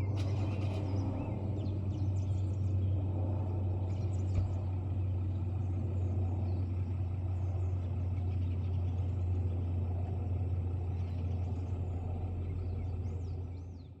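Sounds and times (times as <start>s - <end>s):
low motor vehicle rumble: 0.0s - 14.0s.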